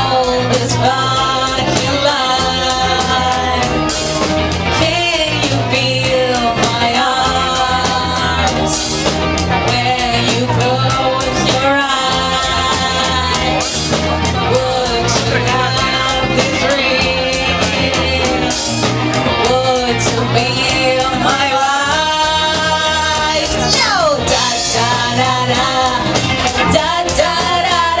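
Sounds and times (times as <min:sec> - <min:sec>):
lead vocal singing: 0:00.0 - 0:28.0
rock band playing live: 0:00.0 - 0:28.0.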